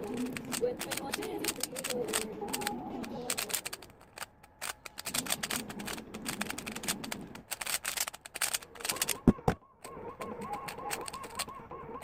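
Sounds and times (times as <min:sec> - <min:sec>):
plastic puzzle cube clicking: 0:00.0 - 0:11.6.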